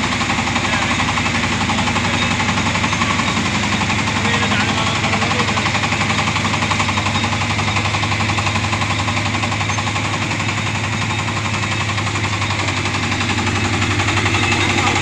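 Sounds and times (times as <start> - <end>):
harvester engine chugging: 0.0 - 15.0.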